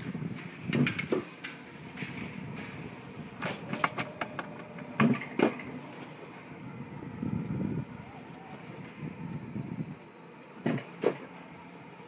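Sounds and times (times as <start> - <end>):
coaster sled clattering on rails: 0.0 - 12.0.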